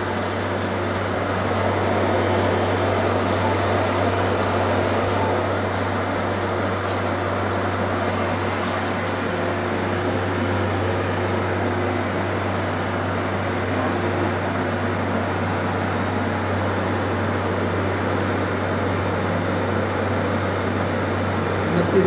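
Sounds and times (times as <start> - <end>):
refrigeration compressor humming: 0.0 - 22.0.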